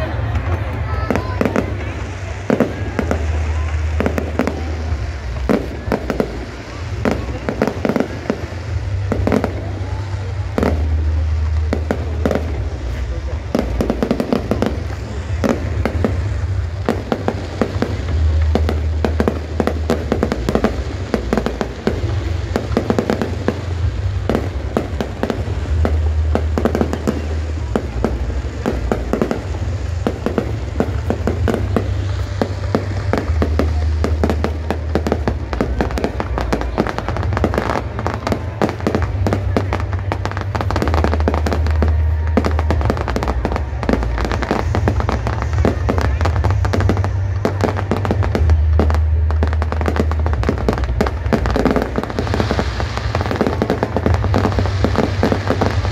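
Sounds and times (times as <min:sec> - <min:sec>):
crowd voices: 0:00.0 - 0:55.9
fireworks bursting and crackling: 0:00.0 - 0:55.9
music with deep bass: 0:00.0 - 0:55.9.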